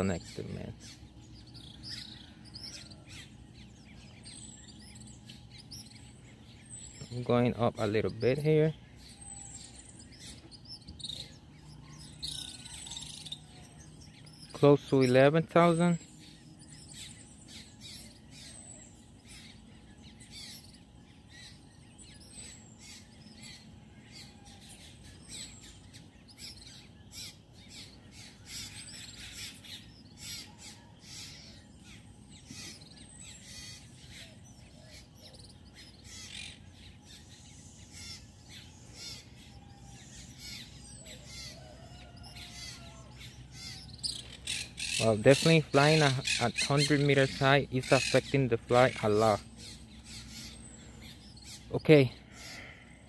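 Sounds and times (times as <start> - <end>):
birds chirping: 0.0 - 53.0
low background hum: 0.0 - 53.0.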